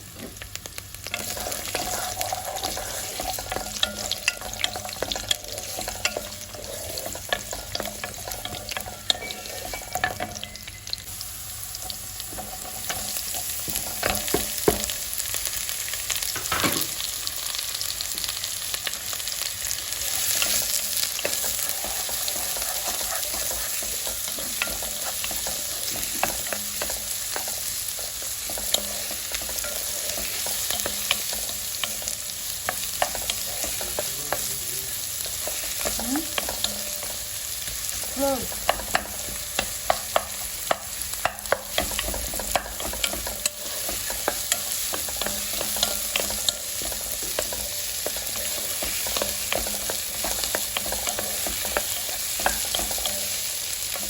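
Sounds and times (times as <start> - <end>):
food sizzling in a pot: 0.0 - 54.0
utensil scraping a pot: 1.1 - 10.7, 11.7 - 15.0, 19.8 - 54.0.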